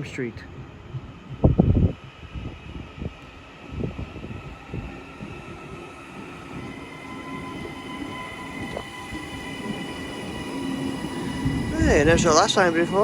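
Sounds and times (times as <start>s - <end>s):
high even train whine: 0.0s - 13.0s
train rumble: 0.0s - 13.0s.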